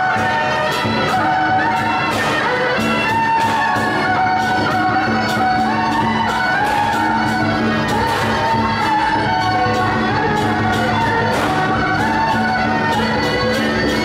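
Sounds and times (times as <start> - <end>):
horns playing long notes: 0.0 - 14.0
percussion strokes: 0.0 - 14.0.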